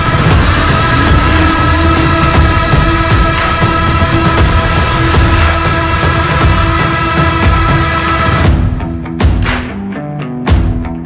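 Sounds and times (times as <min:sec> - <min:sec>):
heavy bass hit: 0:00.0 - 0:09.7.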